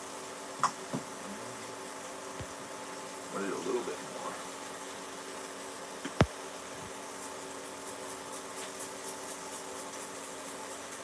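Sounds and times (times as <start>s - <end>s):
exhaust fan humming: 0.0s - 11.0s.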